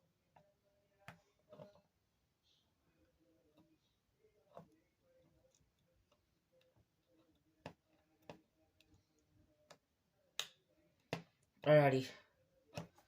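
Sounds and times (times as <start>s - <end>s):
faint clicks and taps: 0.3s - 2.6s, 3.2s - 11.5s, 12.6s - 13.0s.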